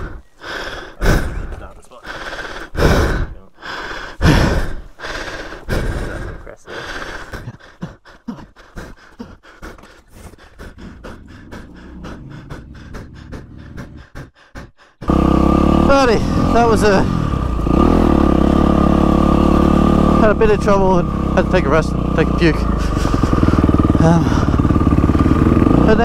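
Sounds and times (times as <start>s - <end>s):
man heaving and gasping: 0.0s - 19.2s, 22.5s - 26.0s.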